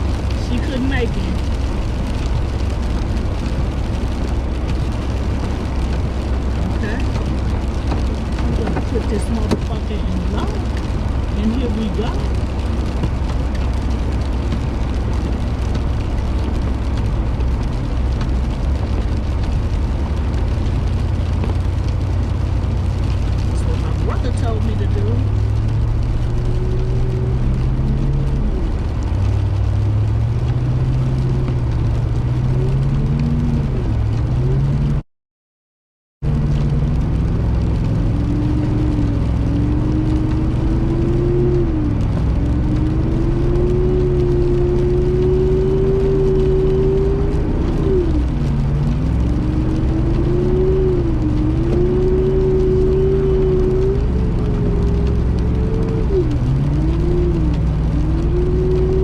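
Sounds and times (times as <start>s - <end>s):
car engine revving uphill: 0.0s - 35.0s, 36.2s - 59.0s.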